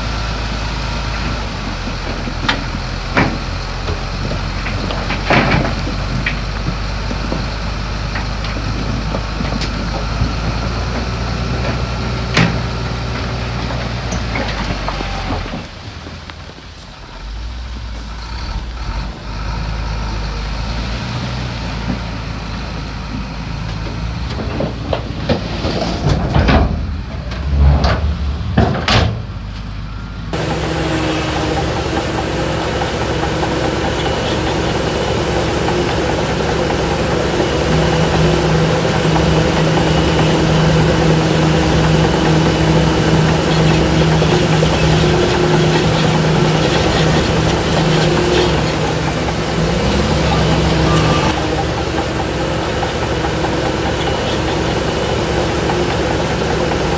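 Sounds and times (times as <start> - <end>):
diesel machinery engine running: 0.0 - 56.9.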